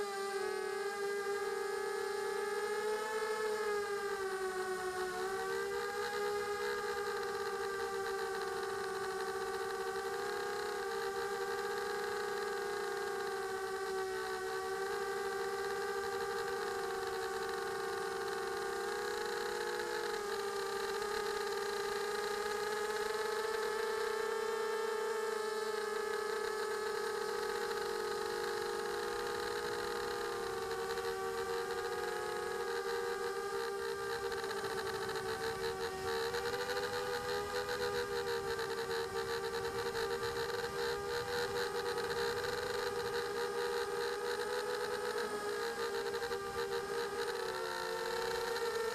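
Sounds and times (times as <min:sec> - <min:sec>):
electric motors and propellers whining: 0:00.0 - 0:48.9.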